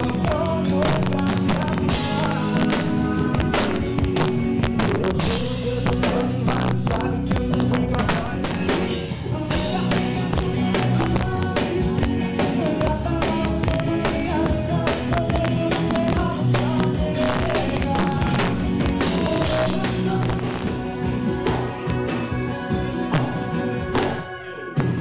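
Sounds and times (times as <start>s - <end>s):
drums hitting: 0.0s - 25.0s
guitar: 0.0s - 25.0s
live band playing: 0.0s - 25.0s.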